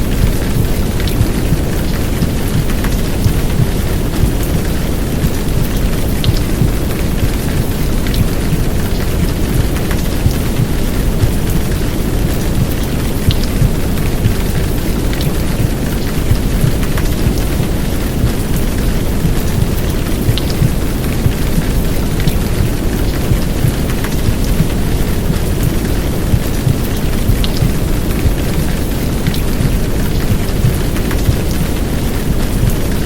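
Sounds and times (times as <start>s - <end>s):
heavy rain downpour: 0.0s - 33.0s
raindrop ticks: 0.0s - 33.0s.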